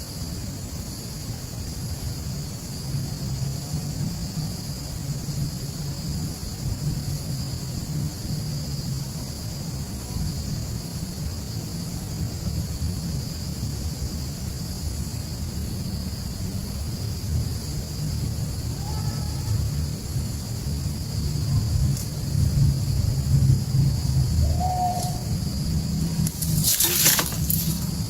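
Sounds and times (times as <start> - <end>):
insects droning: 0.0 - 28.0
wind rumble on microphone: 0.0 - 28.0.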